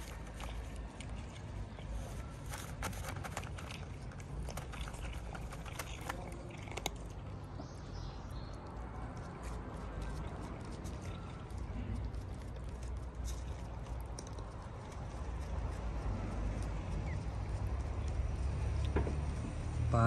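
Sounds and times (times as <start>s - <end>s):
cat crunching dry kibble: 0.0s - 7.6s, 8.6s - 18.7s.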